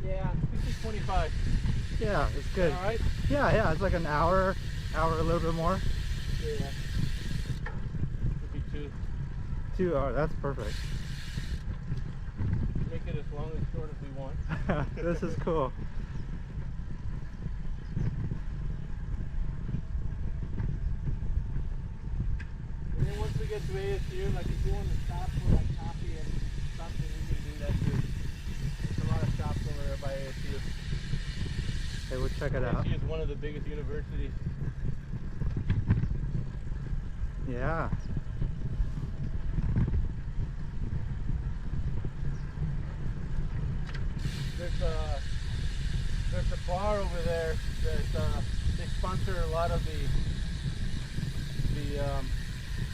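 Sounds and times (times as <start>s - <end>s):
tyre and road noise: 0.0s - 32.8s, 33.5s - 52.9s
wind rumble from moving bicycle: 0.0s - 52.9s.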